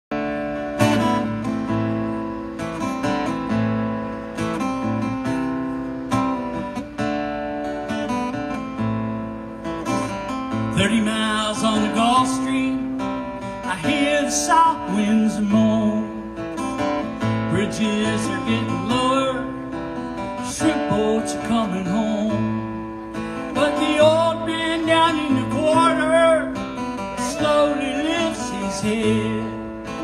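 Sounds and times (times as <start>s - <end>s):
acoustic guitar strumming chords: 0.1s - 30.0s.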